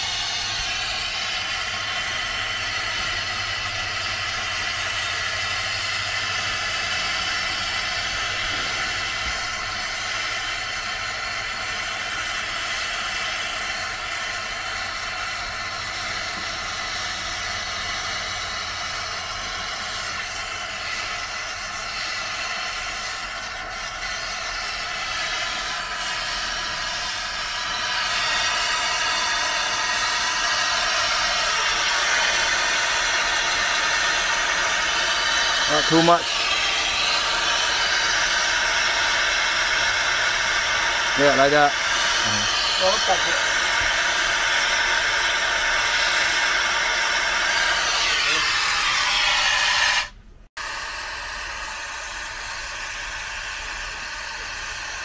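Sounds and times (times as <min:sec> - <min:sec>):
machine hiss with whining tones: 0:00.0 - 0:55.0.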